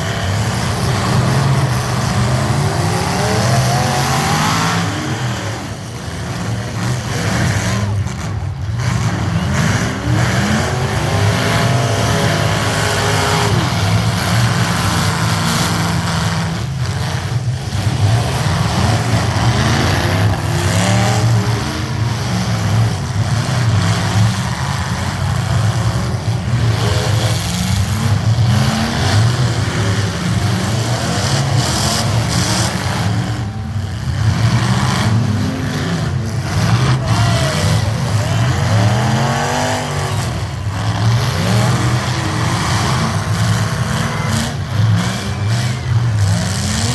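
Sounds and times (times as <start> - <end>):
trucks driving past: 0.0 - 46.9.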